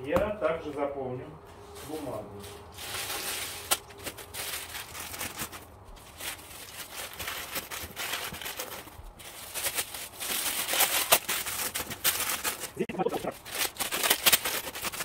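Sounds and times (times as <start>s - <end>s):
paper crumpling and crinkling: 1.7s - 15.0s.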